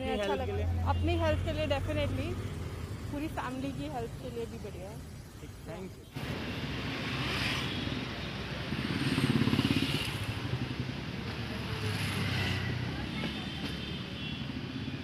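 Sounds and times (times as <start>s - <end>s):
traffic hum: 0.0s - 15.0s
vehicle engines passing: 0.0s - 15.0s.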